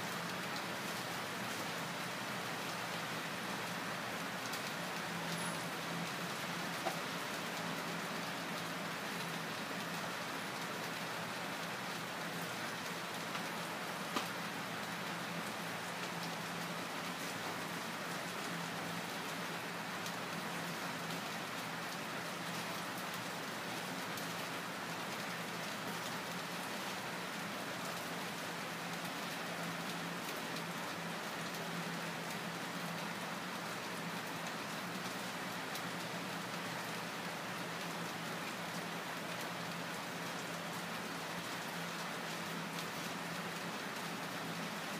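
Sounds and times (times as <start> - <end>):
steady rain-like hiss: 0.0 - 44.9.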